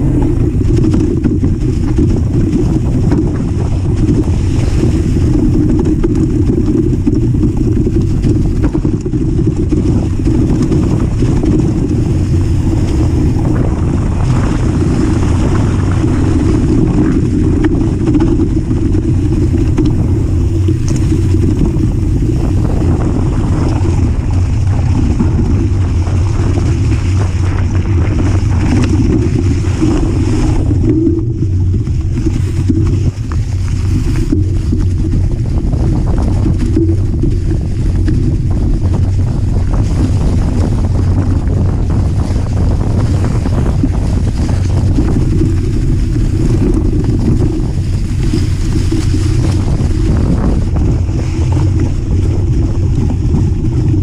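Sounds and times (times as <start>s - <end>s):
bike tyres on leafy dirt trail: 0.0s - 54.0s
wind buffeting microphone: 0.0s - 54.0s.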